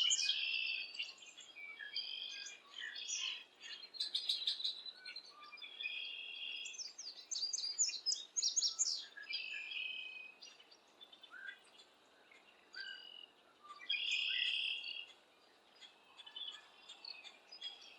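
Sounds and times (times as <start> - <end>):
birds calling and chirping: 0.0 - 17.9.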